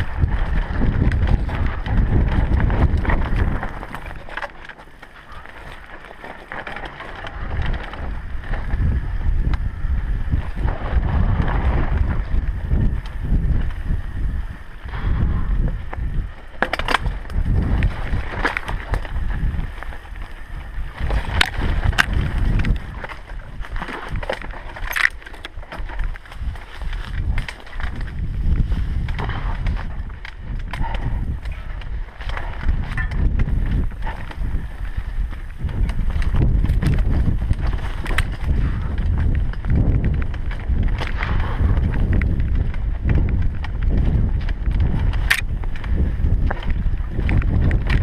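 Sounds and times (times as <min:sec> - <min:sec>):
bike clacking over rocks: 0:00.0 - 0:48.0
bike tyres rumbling on dirt: 0:00.0 - 0:48.0
wind buffeting microphone: 0:00.0 - 0:48.0.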